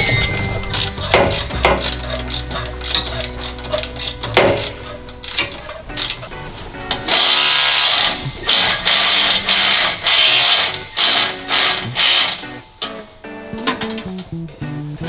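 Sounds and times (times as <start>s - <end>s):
power tool running in bursts: 0.0s - 12.8s
background music: 0.0s - 15.0s.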